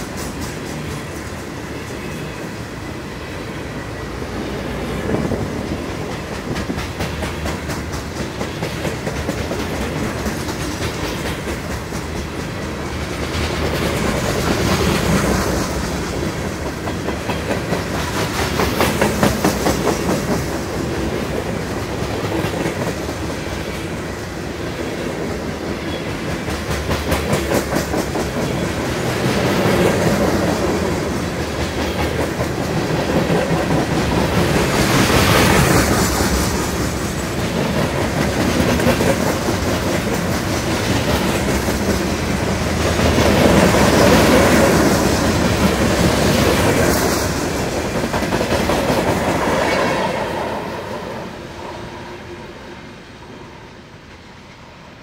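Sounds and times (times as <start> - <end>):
freight train wheels clacking: 0.0 - 51.8.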